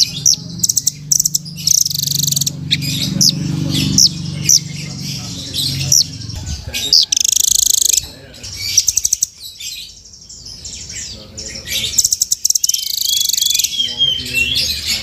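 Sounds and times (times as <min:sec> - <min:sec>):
bird trilling: 0:00.0 - 0:15.0.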